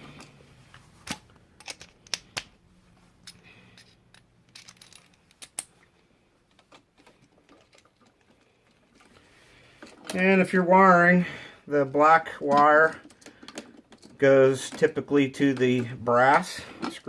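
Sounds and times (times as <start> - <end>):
hands handling electrical parts: 0.0 - 10.4, 12.0 - 17.0.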